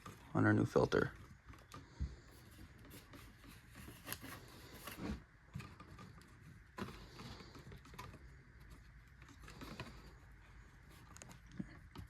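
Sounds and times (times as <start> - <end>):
soft handling clicks and rubs: 0.0 - 12.0.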